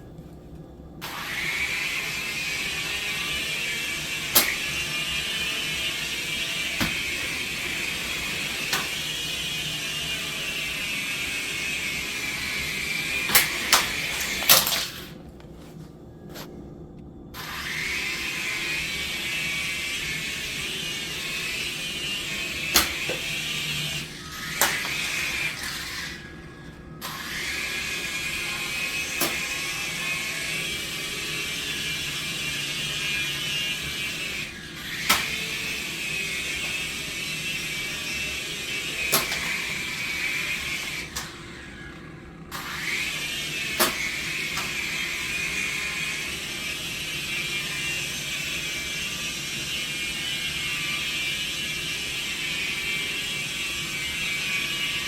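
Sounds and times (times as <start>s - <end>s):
toy helicopter rotors whining: 1.0s - 15.2s, 17.4s - 55.0s.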